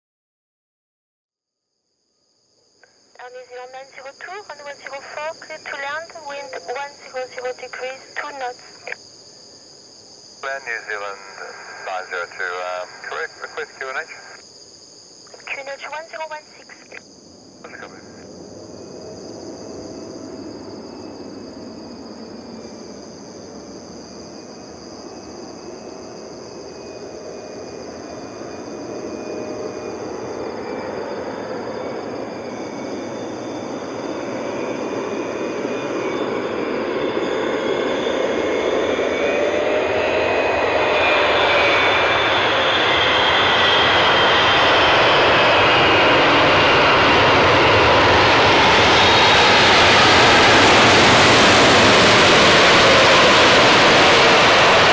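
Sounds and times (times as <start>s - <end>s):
jet airliner landing: 2.8s - 14.5s, 15.3s - 54.9s.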